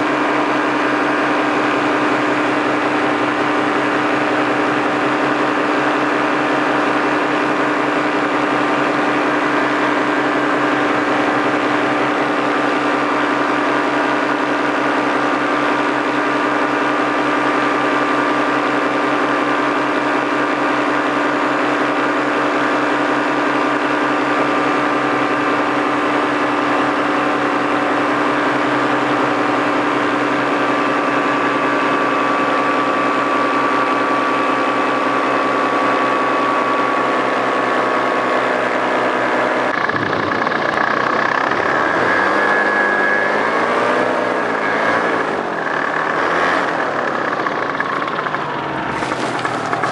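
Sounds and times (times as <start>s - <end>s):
paramotor engine buzzing drone: 0.0s - 49.9s.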